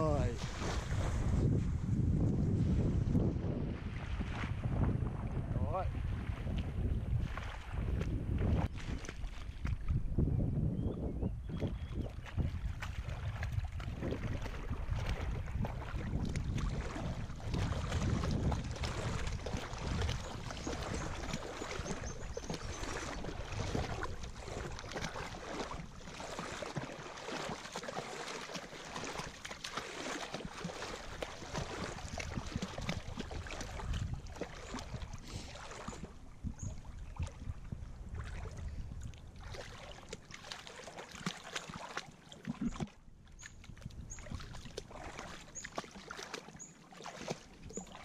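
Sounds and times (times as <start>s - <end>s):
dog wading and splashing water: 6.0s - 10.0s, 11.4s - 48.0s.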